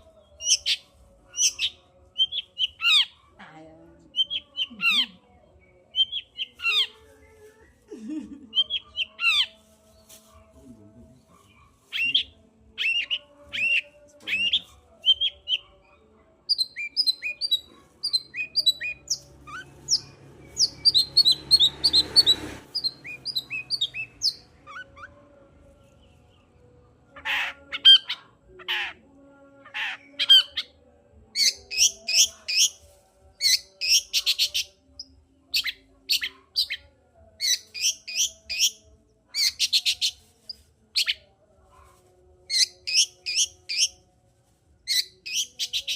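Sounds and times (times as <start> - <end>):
bird chirping song: 0.0 - 3.2, 4.0 - 41.4, 42.5 - 44.0, 44.9 - 45.9.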